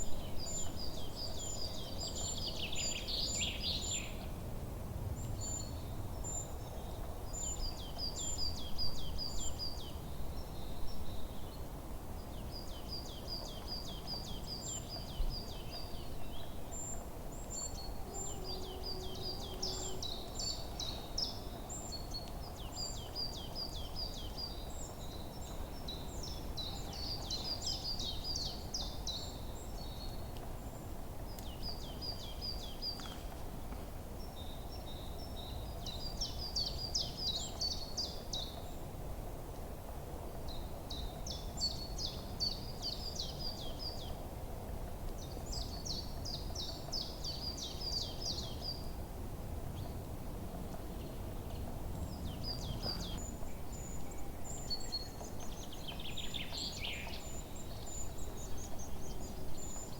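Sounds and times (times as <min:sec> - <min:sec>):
songbirds chirping: 0:00.0 - 0:04.4, 0:05.1 - 0:59.9.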